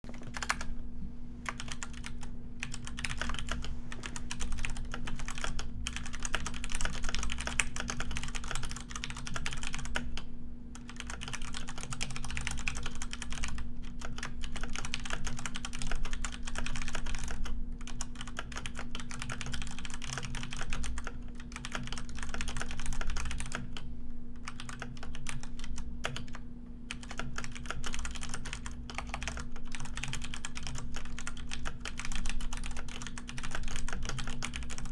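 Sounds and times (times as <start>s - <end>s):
steady low hum: 0.1s - 34.9s.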